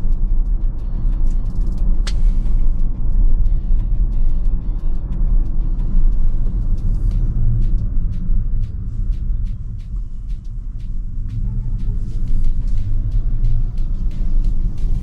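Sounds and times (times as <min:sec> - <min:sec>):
tyre and road noise rumble: 0:00.0 - 0:15.0.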